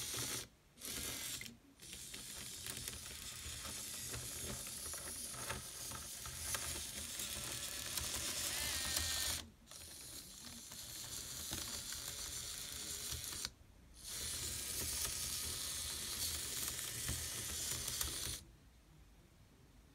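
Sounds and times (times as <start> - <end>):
servos whirring: 0.2 - 18.4.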